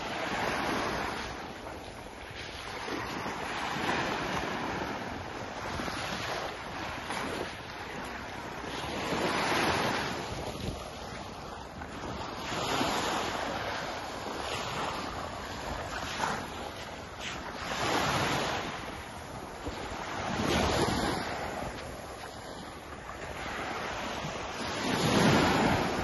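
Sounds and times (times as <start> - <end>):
small waves washing onto beach: 0.0 - 26.0
wind buffeting microphone: 0.0 - 26.0.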